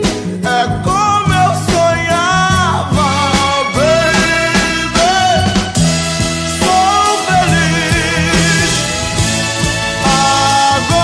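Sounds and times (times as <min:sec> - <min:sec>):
soul band music: 0:00.0 - 0:11.0.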